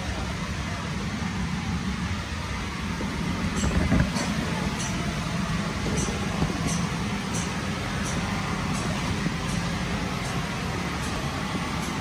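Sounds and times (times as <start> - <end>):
blower fan rumbling: 0.0 - 12.0.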